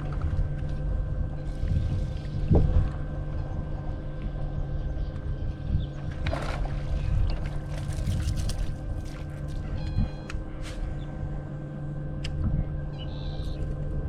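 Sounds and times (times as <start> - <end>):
boat motor rumbling: 0.0 - 14.0.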